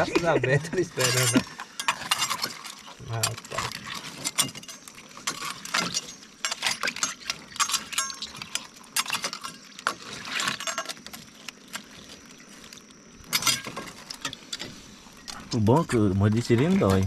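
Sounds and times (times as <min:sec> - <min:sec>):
crab shells clicking and scraping: 0:00.7 - 0:17.0.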